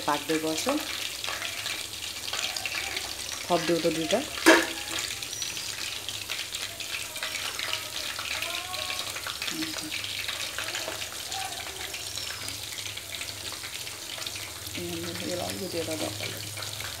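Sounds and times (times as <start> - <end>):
chicken wings sizzling in oil: 0.0 - 17.0.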